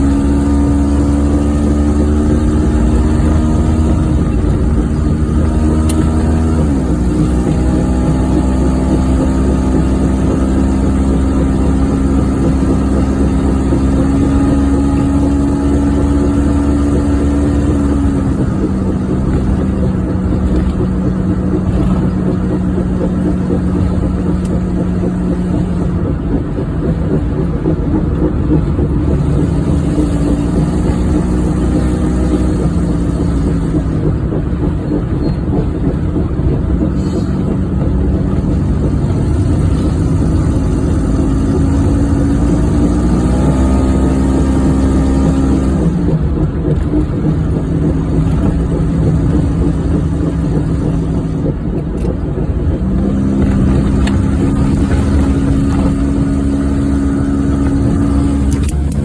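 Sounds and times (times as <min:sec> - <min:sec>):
car engine and road noise: 0:00.0 - 0:59.0
wheel bearing droning tone: 0:00.0 - 0:59.0.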